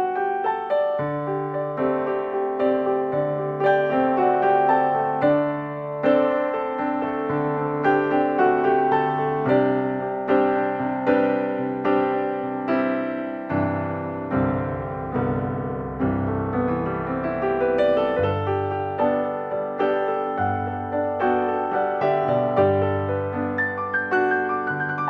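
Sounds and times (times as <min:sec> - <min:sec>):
calm piano music: 0:00.0 - 0:25.0.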